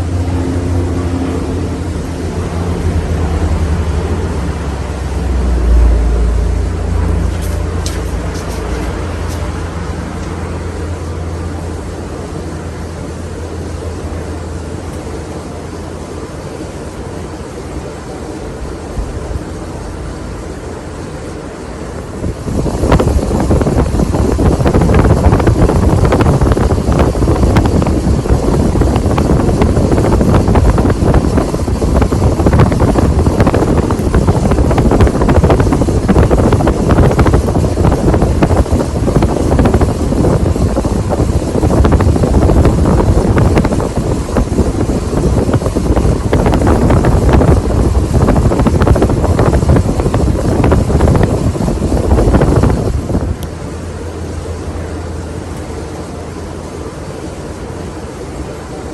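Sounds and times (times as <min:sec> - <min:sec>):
ceiling fan rushing air: 0:00.0 - 0:58.9.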